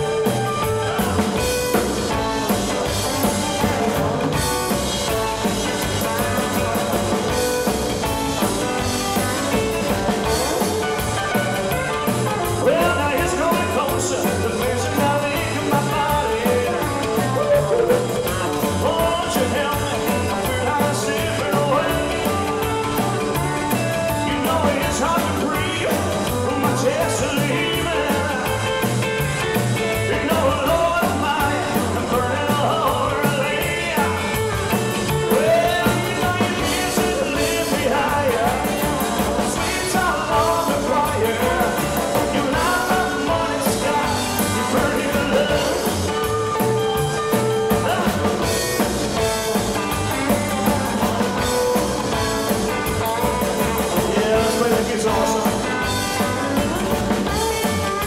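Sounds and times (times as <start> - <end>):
man singing: 0.0 - 58.0
rock and roll band playing: 0.0 - 58.0.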